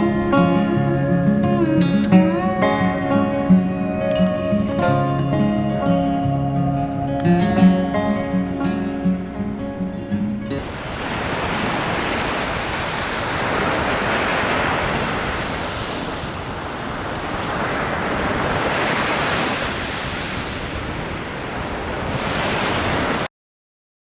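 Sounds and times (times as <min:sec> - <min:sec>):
sea surf breaking: 0:00.0 - 0:23.3.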